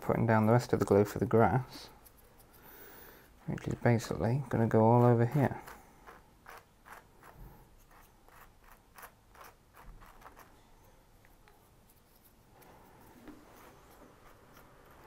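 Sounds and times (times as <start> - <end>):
brush scratching and tapping: 0.0 - 2.6, 3.4 - 15.0.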